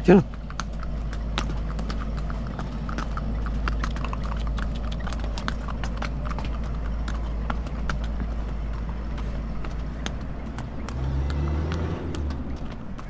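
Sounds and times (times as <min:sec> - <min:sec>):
hooves clip-clopping on stone: 0:00.0 - 0:13.0.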